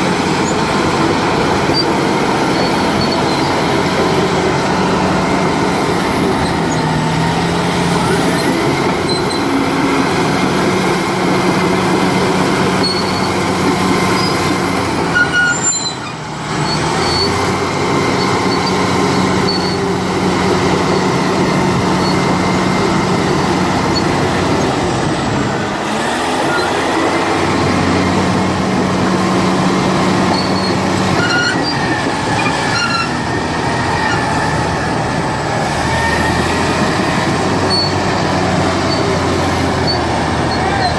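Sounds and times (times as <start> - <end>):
diesel engine hum: 0.0 - 40.9
steel tracks squeaking: 0.0 - 40.9.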